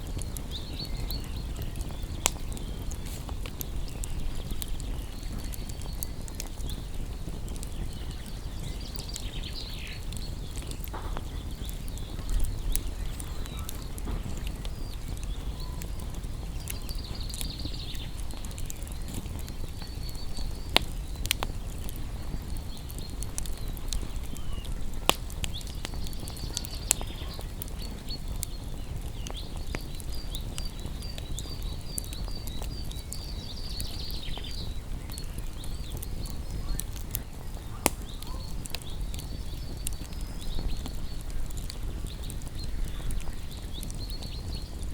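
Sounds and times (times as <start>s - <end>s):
wood fire crackling: 0.0s - 44.9s
high chirping calls: 0.2s - 44.9s.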